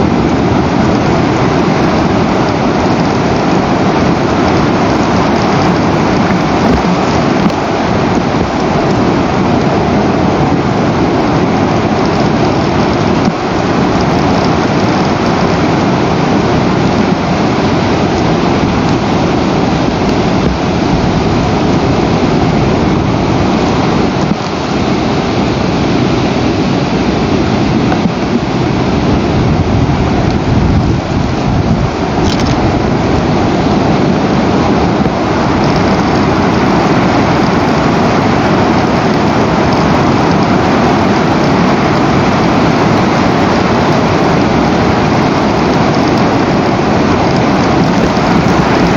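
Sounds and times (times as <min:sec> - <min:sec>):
loud rushing noise: 0:00.0 - 0:48.9.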